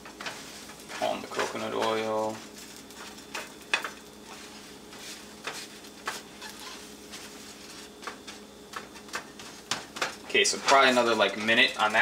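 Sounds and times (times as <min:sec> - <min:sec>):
pancake sizzling in a frying pan: 0:00.0 - 0:12.0
spatula scraping and tapping pan: 0:00.0 - 0:12.0.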